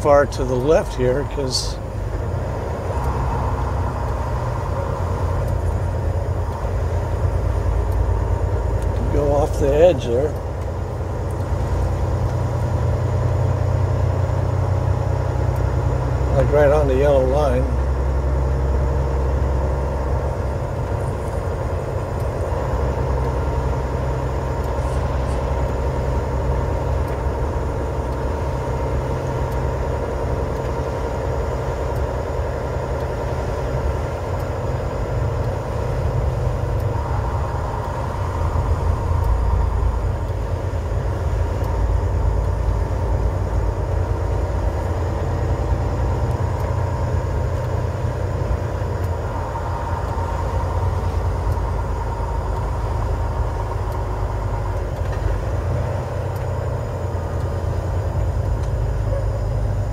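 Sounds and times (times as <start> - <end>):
truck engine and tyres droning: 0.0 - 59.9.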